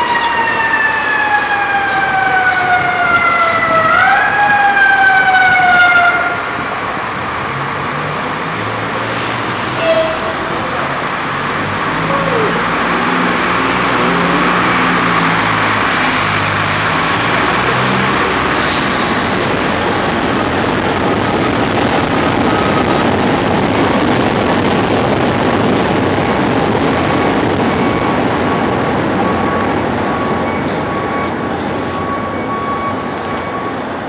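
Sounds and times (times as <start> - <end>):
elevated train rumbling overhead: 0.0 - 34.0.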